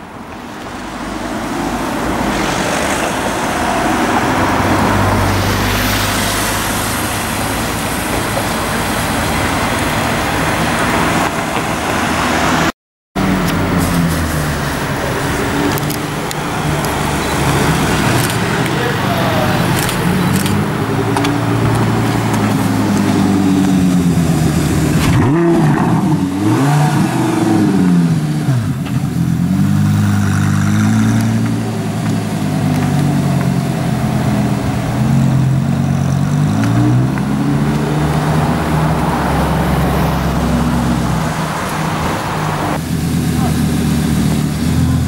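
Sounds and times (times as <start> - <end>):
street traffic: 0.0 - 45.0.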